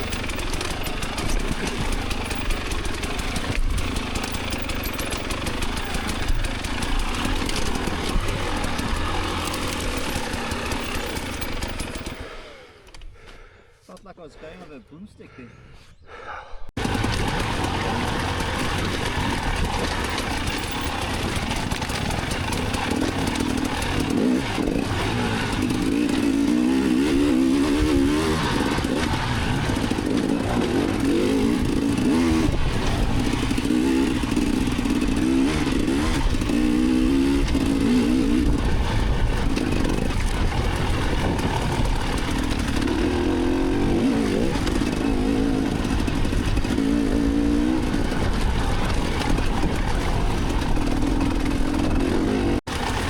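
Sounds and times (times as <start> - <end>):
bike knocks and rattles: 0.0 - 12.4, 16.8 - 53.0
dirt bike engine revving: 0.0 - 13.4, 16.8 - 53.0.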